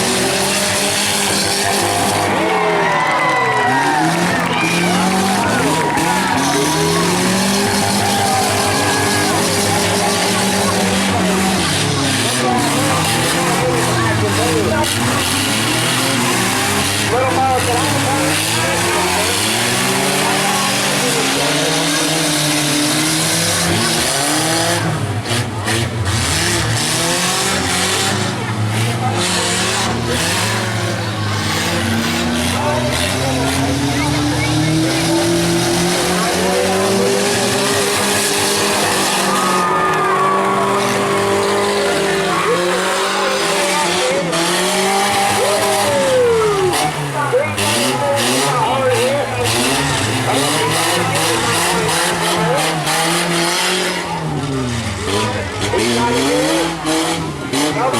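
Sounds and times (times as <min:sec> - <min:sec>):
engines revving: 0:00.0 - 0:57.9
noisy din: 0:00.0 - 0:57.9.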